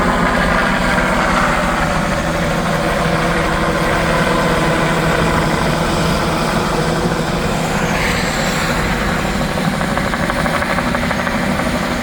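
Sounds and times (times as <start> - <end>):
helicopter turbine and rotor: 0.0 - 12.0.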